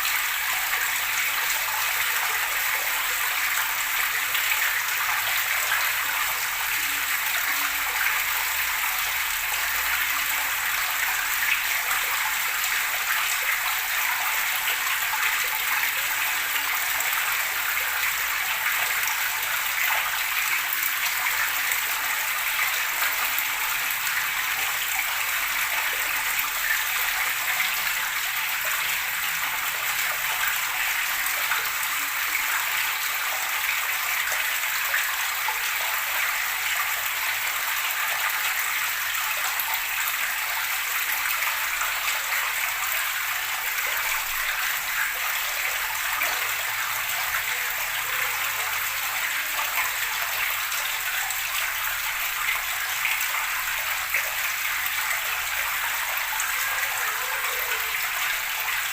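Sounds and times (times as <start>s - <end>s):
gurgling water flowing: 0.0s - 58.9s.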